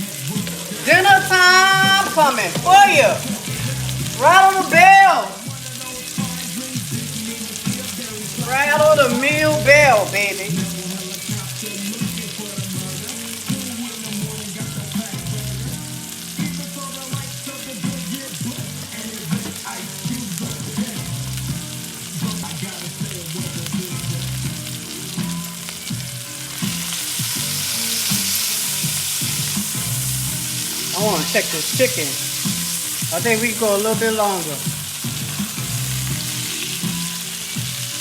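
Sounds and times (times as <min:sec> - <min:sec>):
background music: 0:00.0 - 0:38.0
chicken frying and sizzling: 0:00.0 - 0:38.0.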